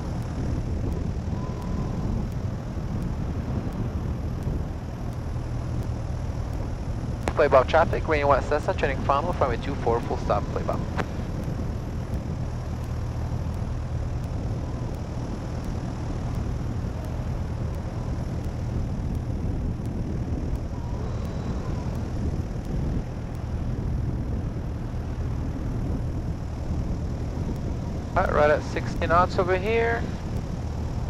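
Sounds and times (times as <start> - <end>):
airflow noise: 0.0 - 31.0
propeller plane engine drone: 0.0 - 31.0.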